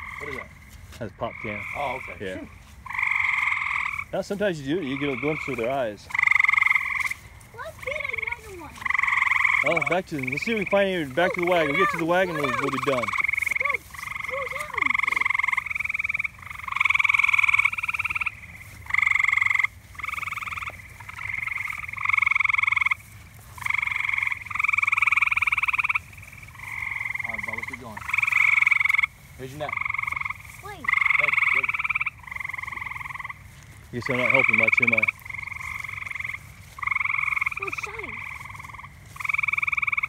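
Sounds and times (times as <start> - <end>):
frogs calling: 0.0 - 40.0.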